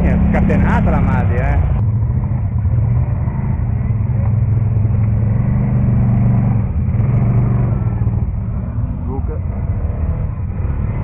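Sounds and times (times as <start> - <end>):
quad bike engine rumbling: 0.0 - 11.0.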